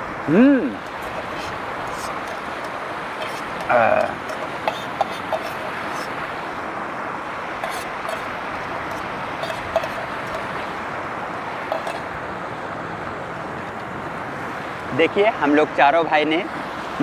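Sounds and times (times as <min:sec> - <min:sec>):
river rushing over stones: 0:00.0 - 0:17.0.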